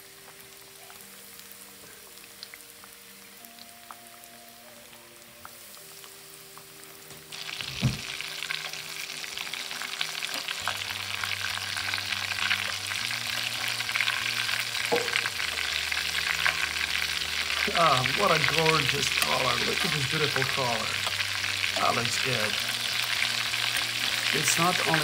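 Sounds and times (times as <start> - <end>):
fish frying in hot oil: 0.0 - 25.0.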